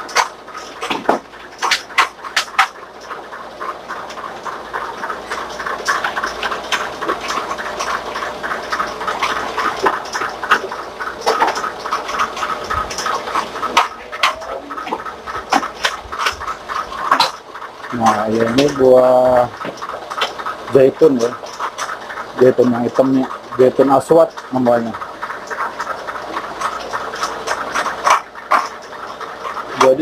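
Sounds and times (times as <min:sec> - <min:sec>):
utensils clicking and clattering: 0:00.0 - 0:30.0.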